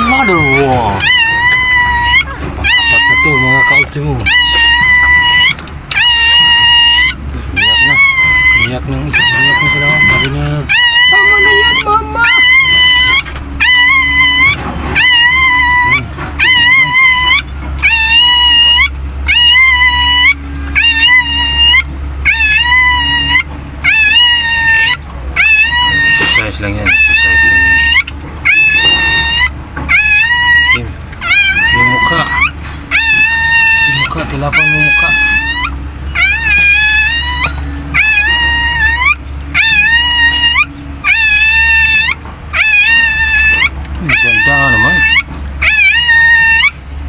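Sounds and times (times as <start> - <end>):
animal crying high-pitched: 0.0 - 47.0
dog whining: 0.0 - 47.0
low steady hum: 0.0 - 47.0.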